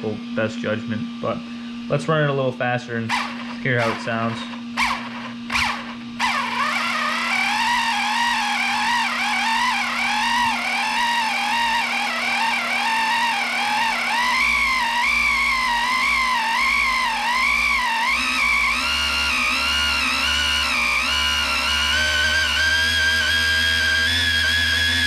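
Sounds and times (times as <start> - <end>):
electric motor and gears whining: 0.0 - 25.0.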